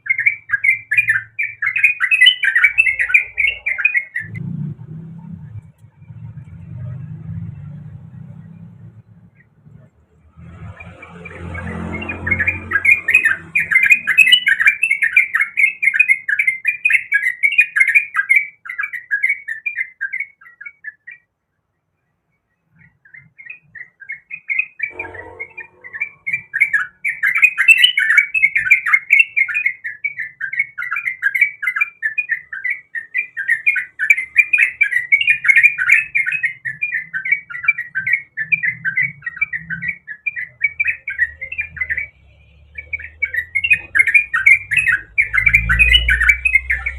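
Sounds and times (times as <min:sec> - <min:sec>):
bird chattering song: 0:00.0 - 0:04.5, 0:08.2 - 0:21.3, 0:22.1 - 0:46.9.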